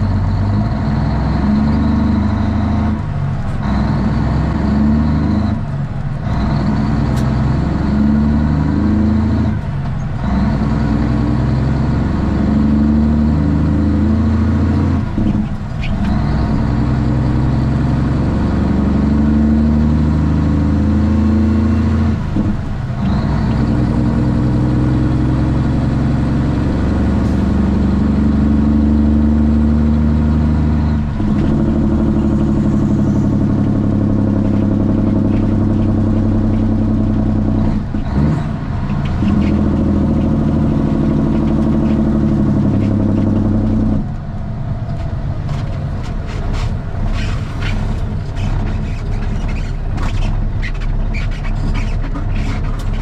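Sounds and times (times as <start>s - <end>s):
loud diesel truck engine: 0.0s - 53.0s.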